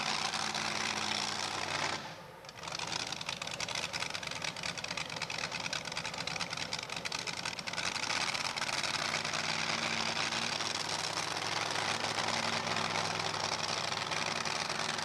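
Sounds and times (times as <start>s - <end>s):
tractor engine clattering: 0.0s - 15.0s.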